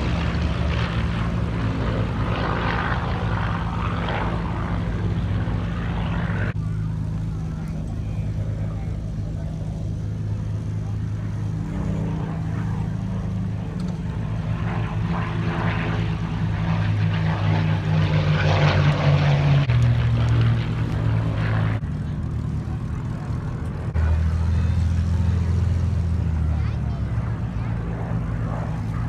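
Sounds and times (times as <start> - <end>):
piston aircraft engines passing: 0.0 - 29.0
steady low drone: 0.0 - 29.0.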